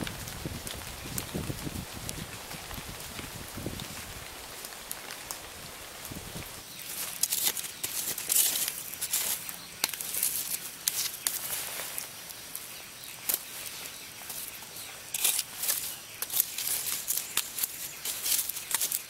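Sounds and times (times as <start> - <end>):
campfire embers crackling: 0.0 - 19.0
faint steady hiss: 0.0 - 19.0.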